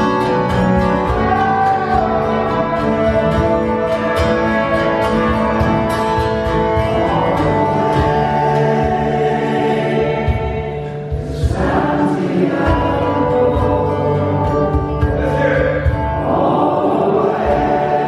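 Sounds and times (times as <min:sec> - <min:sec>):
guitars: 0:00.0 - 0:18.0
live band playing folk music: 0:00.0 - 0:18.0.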